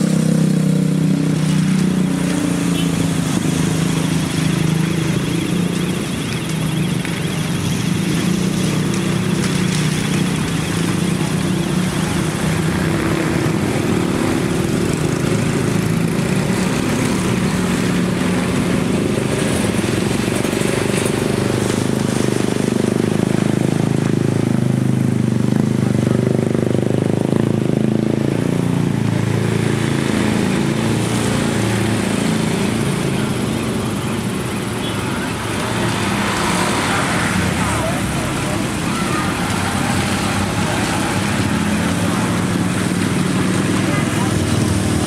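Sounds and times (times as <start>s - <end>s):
heavy machinery engine drone: 0.0s - 45.0s.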